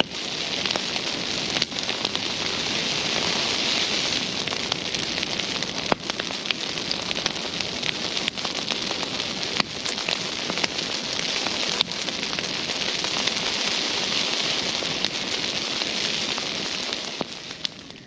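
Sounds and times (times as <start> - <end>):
bonfire burning with hiss: 0.0 - 18.0
burning wood crackling and popping: 0.0 - 18.0.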